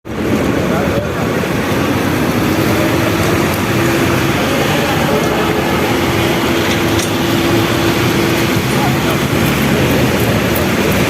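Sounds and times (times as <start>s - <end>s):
city traffic noise: 0.0s - 11.0s
engine hum: 0.0s - 11.0s.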